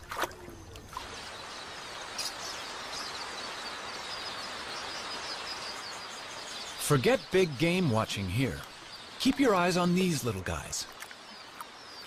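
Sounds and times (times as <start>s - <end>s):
outdoor ambient hiss: 0.0s - 12.0s.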